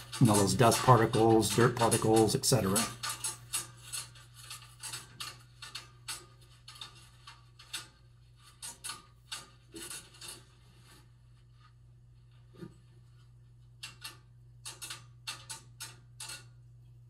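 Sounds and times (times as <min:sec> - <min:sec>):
hands scraping metal parts: 0:00.0 - 0:16.6
steady low hum: 0:00.0 - 0:17.0.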